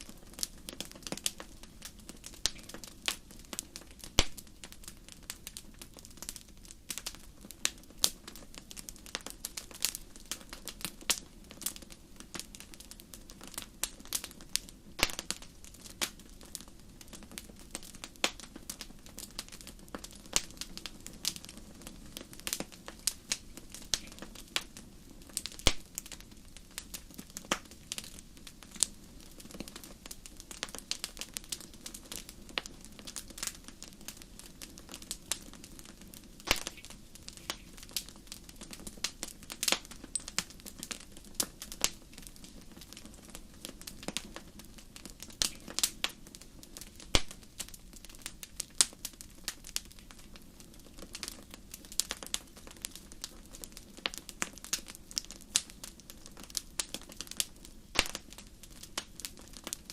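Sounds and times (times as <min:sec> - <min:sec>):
fire flames rumbling: 0:00.0 - 0:59.9
wood fire crackling and popping: 0:00.0 - 0:59.9.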